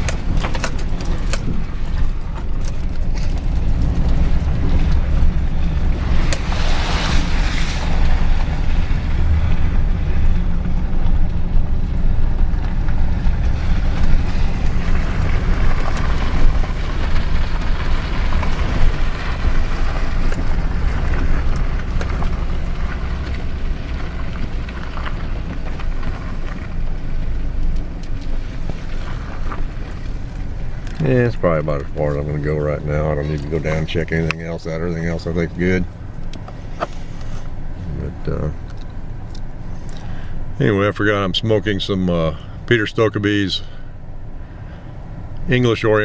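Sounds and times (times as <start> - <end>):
road noise: 0.0 - 46.0
vehicle engine rumble: 0.0 - 46.0.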